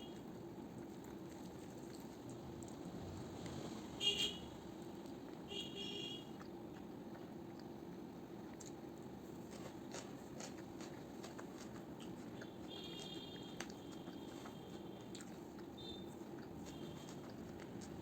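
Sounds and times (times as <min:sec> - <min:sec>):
person chewing food: 0:00.0 - 0:03.6, 0:04.7 - 0:05.5, 0:06.2 - 0:18.0
low background hum: 0:00.0 - 0:18.0.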